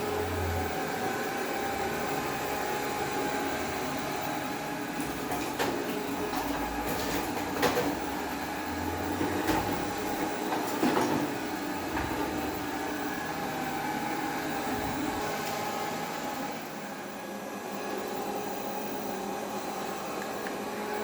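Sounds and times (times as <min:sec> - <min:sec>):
robot vacuum cleaner humming: 0:00.0 - 0:21.0.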